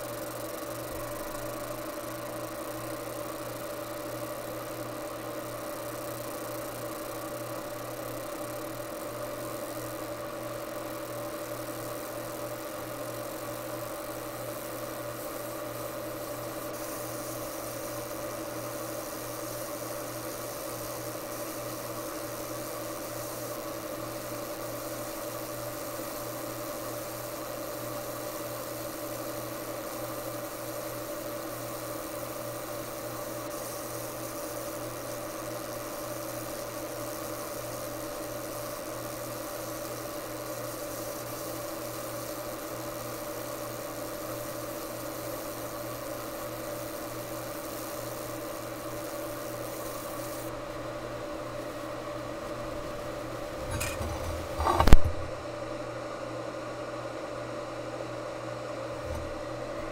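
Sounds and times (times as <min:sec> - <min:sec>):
high hiss: 0:00.0 - 0:55.6
laser engraver humming: 0:00.0 - 0:59.9.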